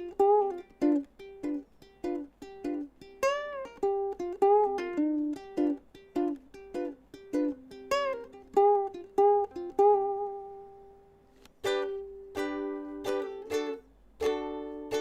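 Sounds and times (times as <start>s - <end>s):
ukulele plucked melody: 0.0s - 15.0s.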